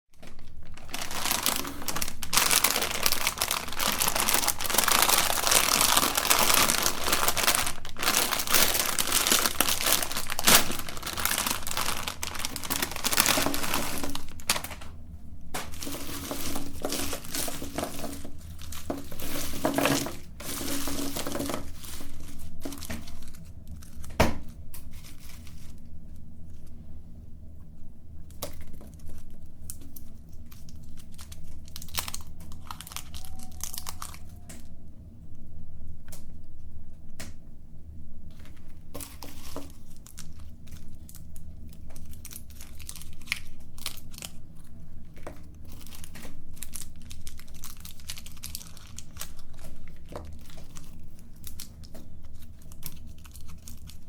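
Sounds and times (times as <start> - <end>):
candy crunching in a grinder: 0.1 - 26.7, 28.3 - 34.7, 38.3 - 54.0.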